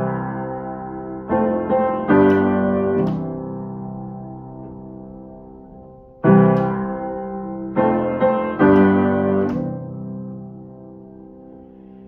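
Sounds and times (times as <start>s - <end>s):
piano chord ringing: 0.0s - 12.0s.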